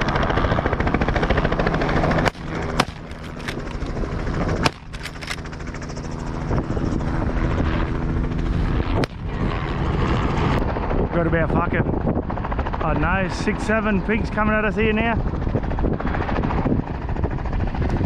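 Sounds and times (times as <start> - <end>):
helicopter rotor and engine: 0.0 - 18.0.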